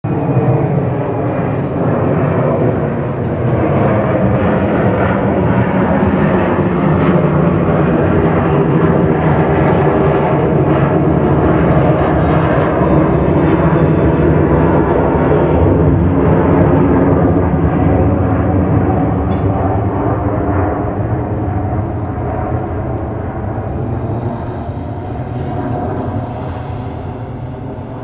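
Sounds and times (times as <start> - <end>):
jet engine roar overhead: 0.0 - 28.0.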